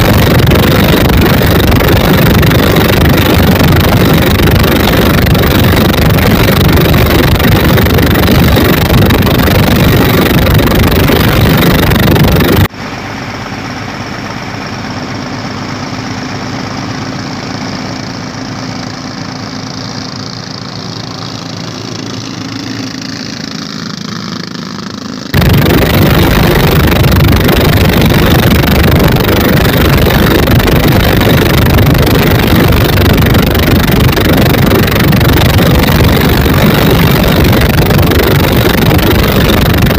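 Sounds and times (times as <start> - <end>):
boat diesel engines running: 0.0 - 39.9.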